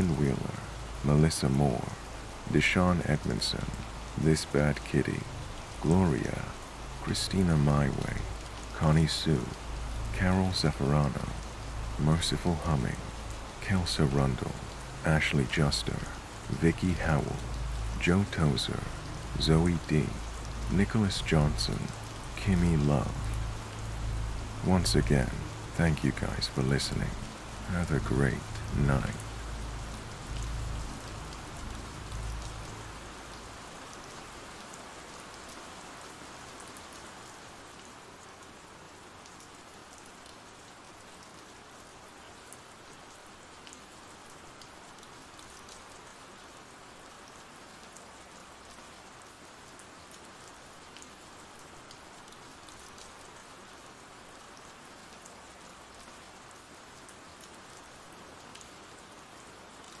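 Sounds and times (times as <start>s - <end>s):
rain hissing: 0.0s - 60.0s
raindrop ticks: 0.0s - 60.0s.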